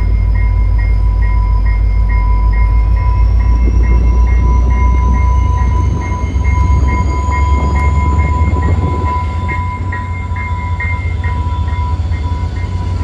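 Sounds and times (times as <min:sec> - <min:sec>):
diesel locomotive engine rumble: 0:00.0 - 0:13.0
rising engine whine: 0:00.0 - 0:13.0
short beeps: 0:00.0 - 0:13.0
steady tone: 0:00.0 - 0:13.0.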